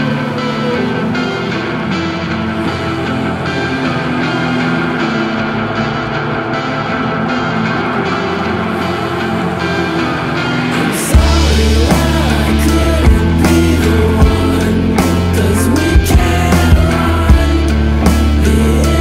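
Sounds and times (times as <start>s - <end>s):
rock guitar music: 0.0s - 19.0s.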